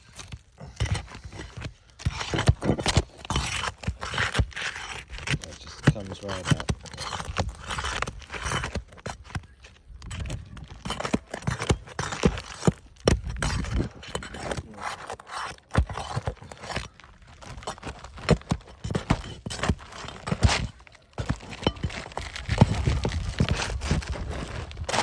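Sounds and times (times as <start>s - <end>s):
shingles scraping and crunching: 0.0s - 25.0s.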